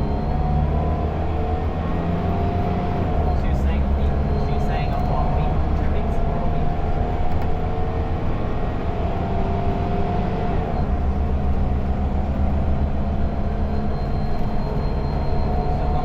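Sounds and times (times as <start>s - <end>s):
bus engine deep hum: 0.0s - 16.0s.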